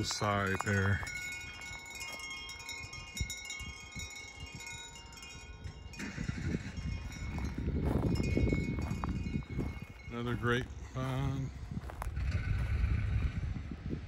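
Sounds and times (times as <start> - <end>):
chimes ringing: 0.0 - 11.8.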